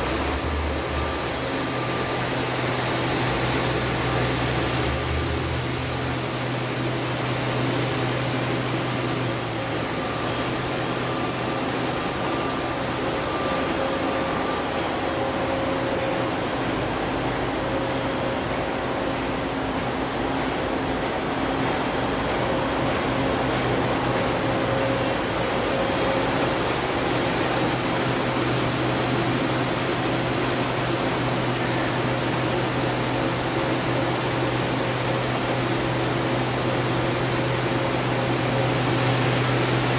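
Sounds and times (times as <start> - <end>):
lathe running with mechanical hum: 0.0 - 39.9.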